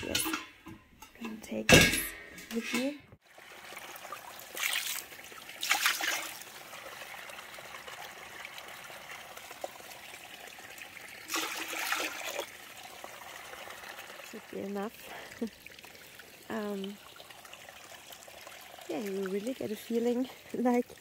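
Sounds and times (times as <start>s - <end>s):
ladle scooping and pouring water: 3.2s - 21.0s
stream trickling over stones: 3.2s - 21.0s.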